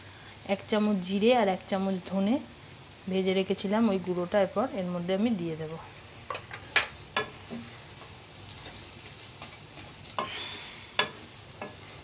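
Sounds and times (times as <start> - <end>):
faint frying sizzle: 0.0 - 12.0.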